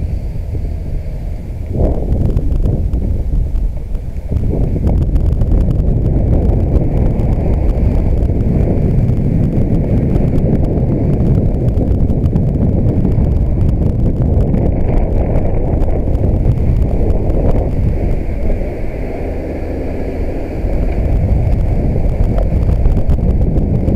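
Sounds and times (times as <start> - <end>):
wind rushing over microphone: 0.0 - 23.9.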